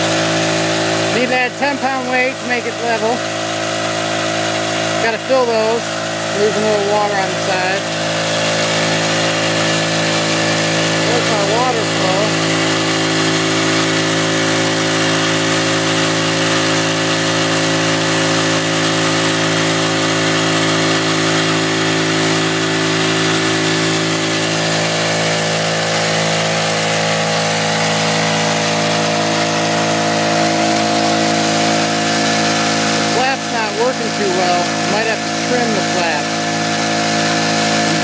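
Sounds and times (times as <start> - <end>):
small engine running: 0.0 - 38.0
water rushing through dredge: 0.0 - 38.0.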